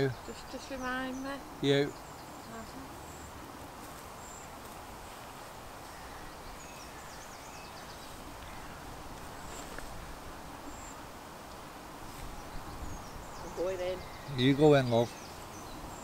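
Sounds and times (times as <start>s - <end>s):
distant small birds calling: 0.0s - 16.0s.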